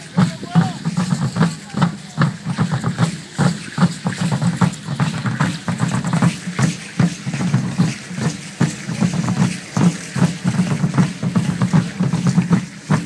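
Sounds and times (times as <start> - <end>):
deep wooden drums beating: 0.0 - 13.0.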